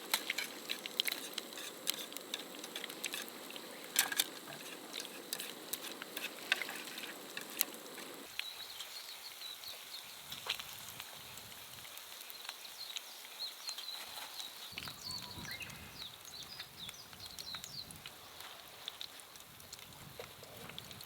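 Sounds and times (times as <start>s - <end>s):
oil sizzling in a pan: 0.0s - 21.0s.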